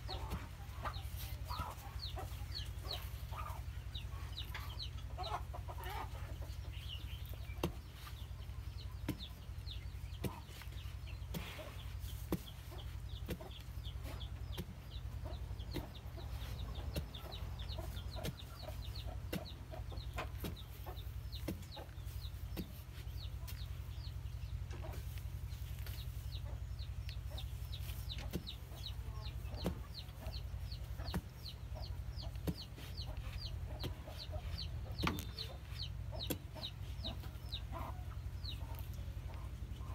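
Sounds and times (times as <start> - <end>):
chickens clucking: 0.0 - 39.9
chicks cheeping: 0.0 - 39.9.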